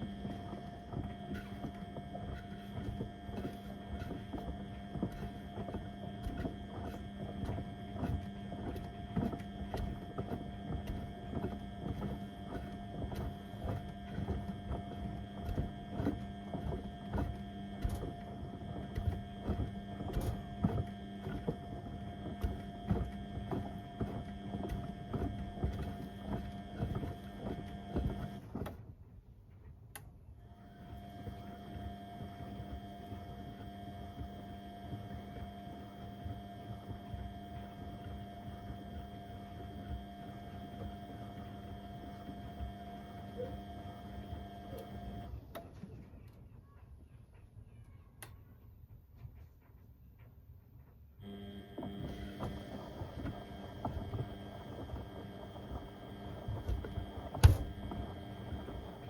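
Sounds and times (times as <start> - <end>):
washing machine motor hum: 0.0 - 49.7, 51.1 - 59.0.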